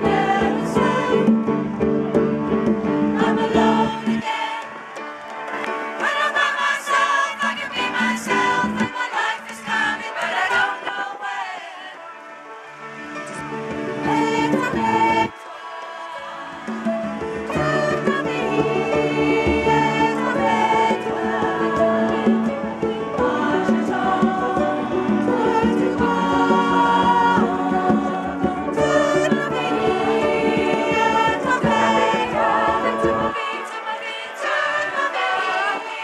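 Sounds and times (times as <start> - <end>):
piano accompaniment: 0.0 - 9.3, 12.4 - 36.0
choir singing in parts: 0.0 - 36.0.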